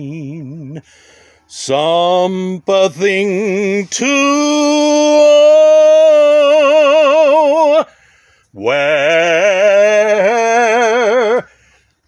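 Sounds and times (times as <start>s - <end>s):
man singing unaccompanied: 0.0s - 0.9s, 1.5s - 11.5s.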